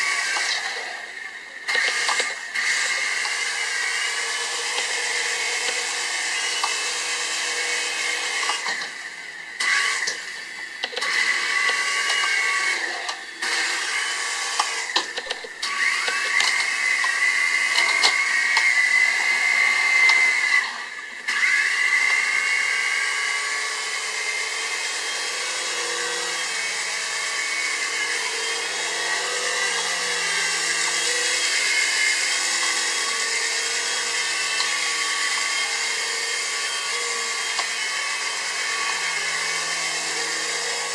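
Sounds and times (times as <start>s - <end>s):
toy helicopter rotors whirring: 0.0s - 40.9s.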